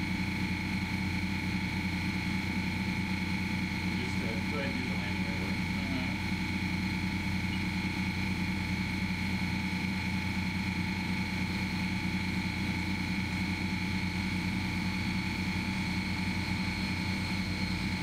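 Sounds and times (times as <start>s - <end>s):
machinery drone with high whine: 0.0s - 18.0s.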